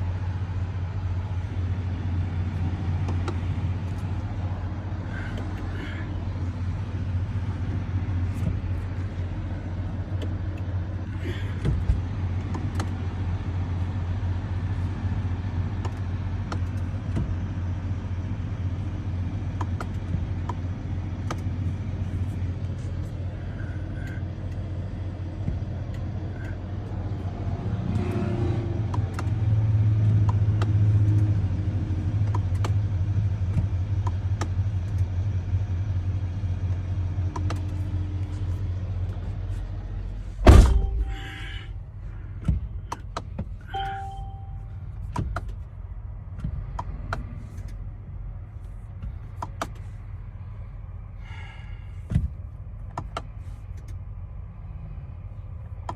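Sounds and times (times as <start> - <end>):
low vehicle rumble: 0.0 - 55.9.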